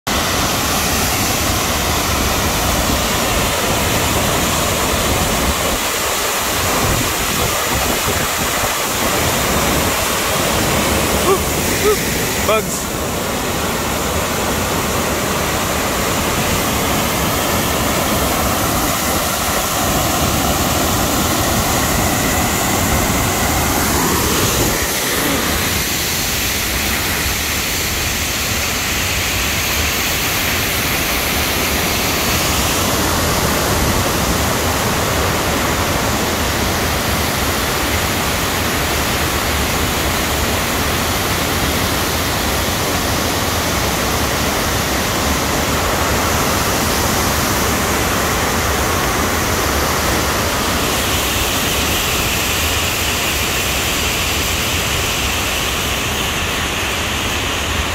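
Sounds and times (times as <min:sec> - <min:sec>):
rushing white water: 0:00.1 - 0:57.9.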